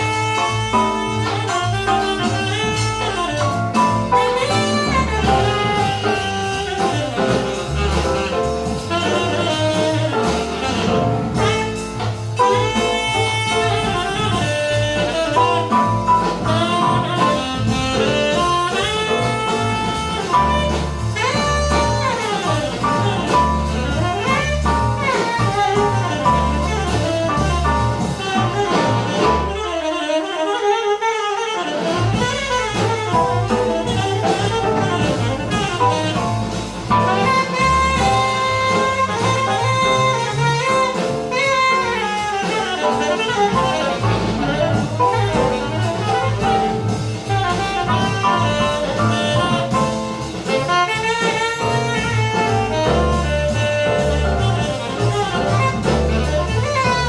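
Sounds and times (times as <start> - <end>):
jazz saxophone over bass line: 0.0 - 57.0.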